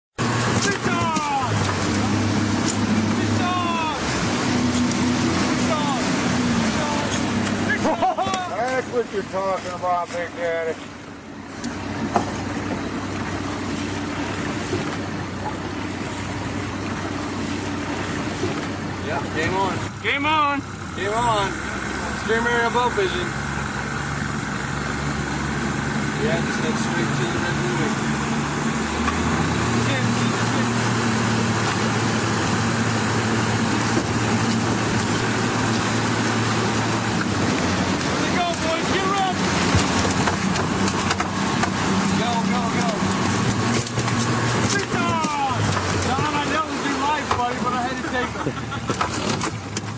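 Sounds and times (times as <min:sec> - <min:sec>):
outboard motor running: 0:00.1 - 0:49.9
water noise from boat: 0:00.1 - 0:49.9.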